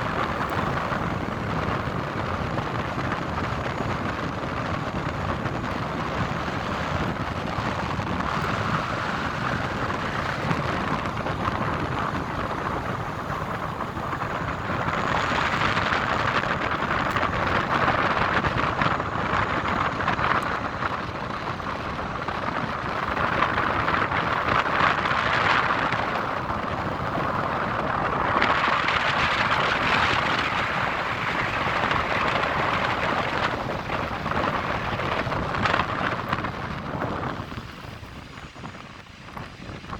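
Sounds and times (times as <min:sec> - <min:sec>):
wind hiss: 0:00.0 - 0:39.9.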